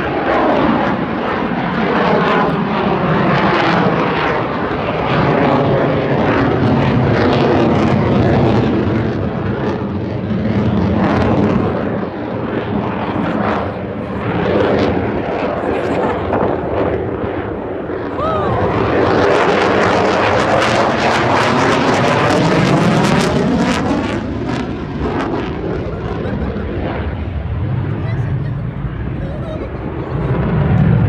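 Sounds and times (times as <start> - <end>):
fighter jets passing over: 0.0 - 31.0.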